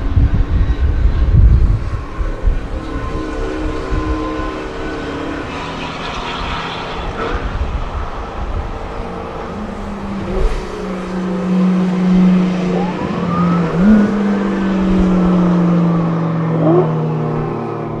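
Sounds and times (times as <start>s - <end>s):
wind buffeting microphone: 0.0s - 18.0s
race car engine revving: 0.1s - 18.0s.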